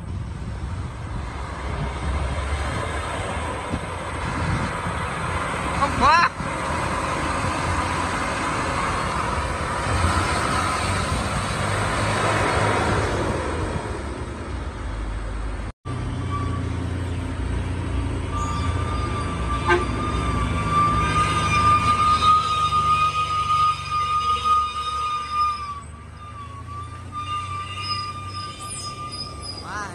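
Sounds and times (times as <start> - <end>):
diesel truck engine passing: 0.0 - 29.9.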